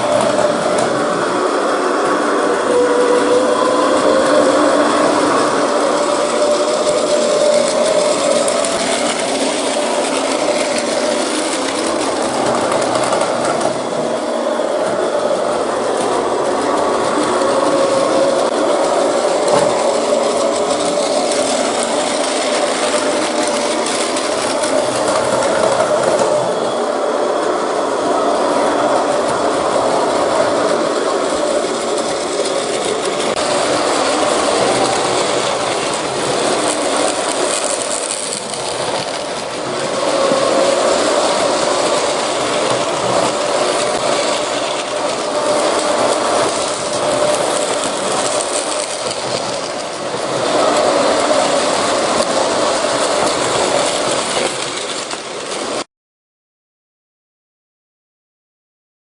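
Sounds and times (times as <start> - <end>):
toy train motor whirring: 0.0 - 26.7, 27.4 - 55.8
toy train wheels rattling: 0.0 - 55.8.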